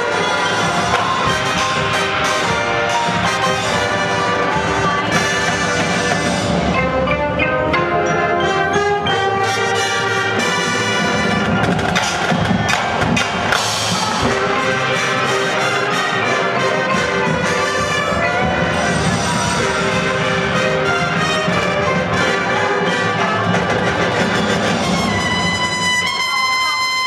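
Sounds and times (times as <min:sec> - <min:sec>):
marching band playing: 0:00.0 - 0:27.0
struck percussion notes: 0:00.0 - 0:27.0.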